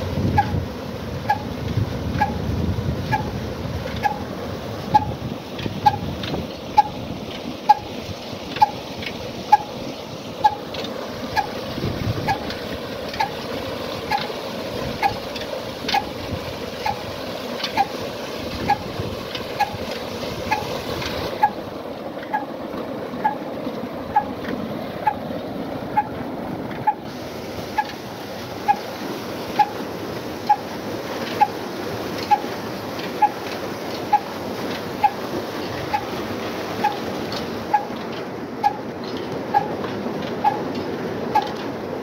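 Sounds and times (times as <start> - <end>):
diesel engine exhaust beat: 0.0 - 42.0
water gushing from pipes: 0.0 - 42.0.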